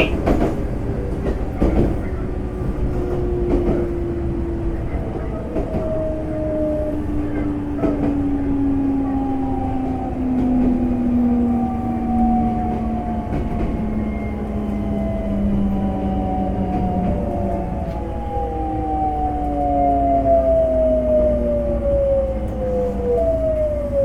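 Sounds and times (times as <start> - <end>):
low rumble of wheels on rail: 0.0 - 24.0.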